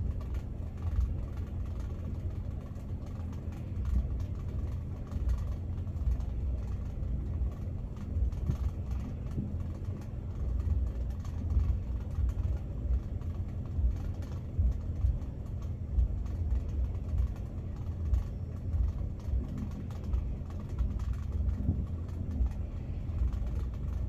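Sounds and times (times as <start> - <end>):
faint steady hum: 0.0 - 24.0
low uneven rumble: 0.0 - 24.0.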